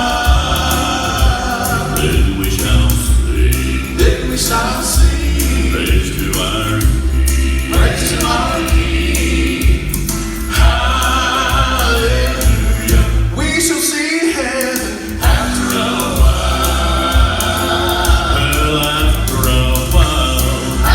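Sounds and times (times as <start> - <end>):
instrumental backing with bass: 0.0 - 13.8, 14.6 - 20.9
vocal quartet singing in harmony: 0.0 - 20.9.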